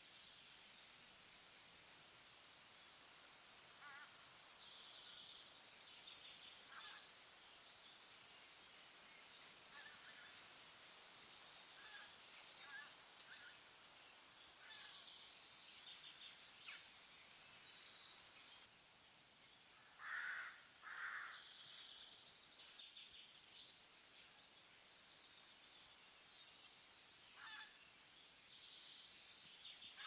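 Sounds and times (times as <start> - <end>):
soft steady hiss: 0.0 - 30.0.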